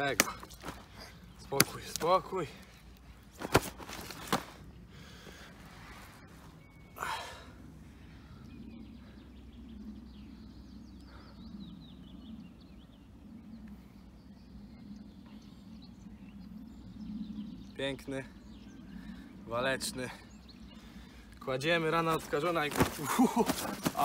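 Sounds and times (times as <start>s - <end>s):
low steady hum: 0.0s - 24.0s
faint bird chirps: 3.8s - 24.0s.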